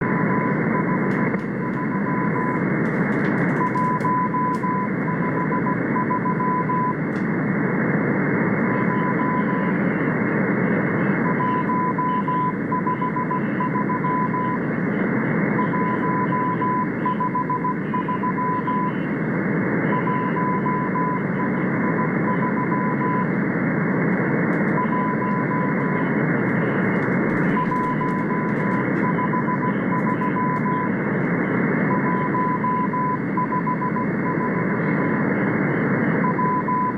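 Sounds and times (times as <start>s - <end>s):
morse code tone: 0.0s - 2.6s, 3.5s - 7.0s, 8.7s - 10.0s, 10.9s - 19.2s, 19.8s - 23.3s, 24.8s - 31.0s, 31.8s - 36.9s.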